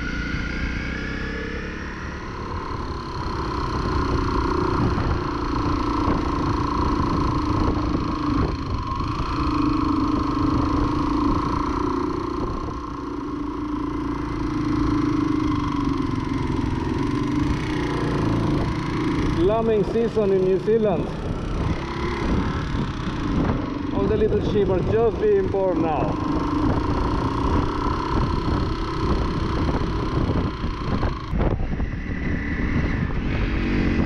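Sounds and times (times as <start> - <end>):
motorcycle engine: 0.0 - 34.0.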